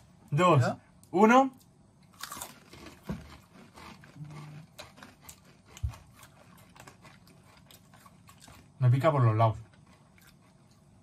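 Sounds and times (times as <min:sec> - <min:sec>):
people chewing crisp chips: 0:02.0 - 0:11.0.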